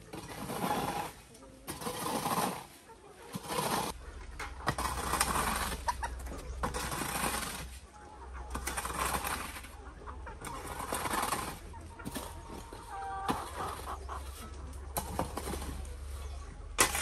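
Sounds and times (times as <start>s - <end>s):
shovel scraping dry dirt: 0.0s - 7.9s, 8.5s - 9.8s, 10.4s - 17.0s
chickens clucking: 0.0s - 17.0s.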